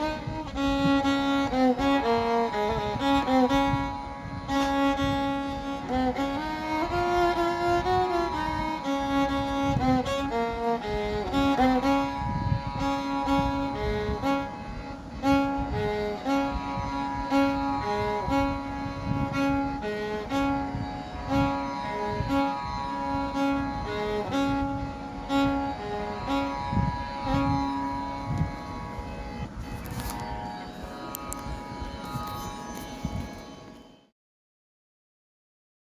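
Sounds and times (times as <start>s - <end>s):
instrumental music with steady beat: 0.0s - 34.1s.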